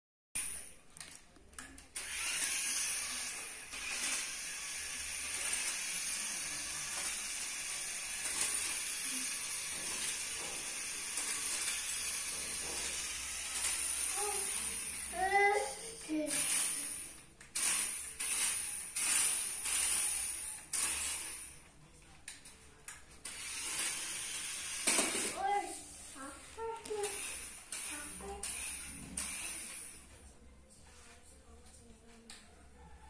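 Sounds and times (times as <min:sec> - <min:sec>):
toy car electric motor whirring: 0:01.6 - 0:21.7, 0:23.2 - 0:30.1.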